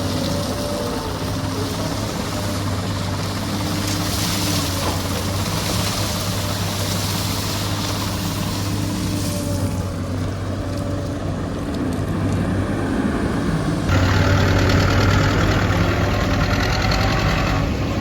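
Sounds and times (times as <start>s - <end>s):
excavator diesel engine: 0.0s - 18.0s.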